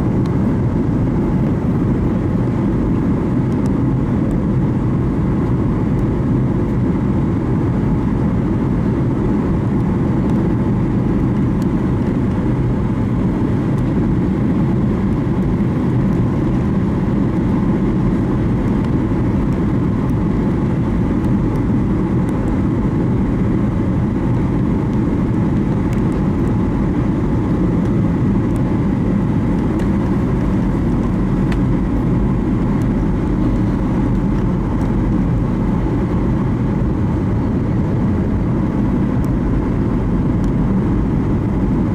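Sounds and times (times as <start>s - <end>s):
airliner engine rumble: 0.0s - 41.9s.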